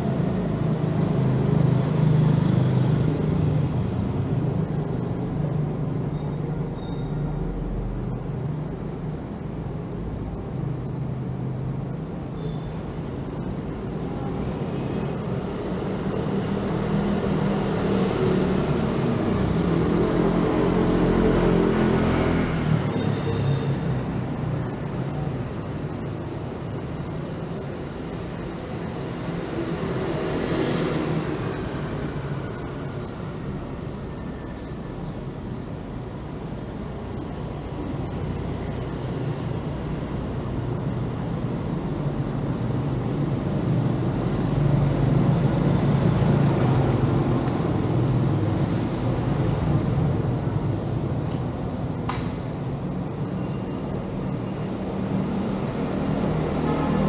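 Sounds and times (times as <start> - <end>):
street traffic hum: 0.0 - 57.0.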